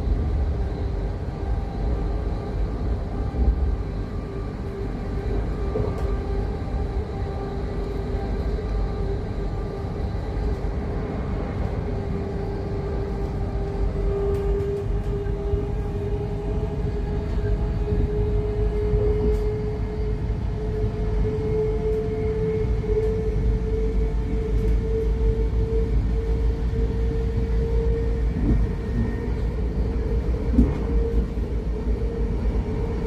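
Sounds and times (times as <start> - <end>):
wheels rumbling on track: 0.0 - 33.0.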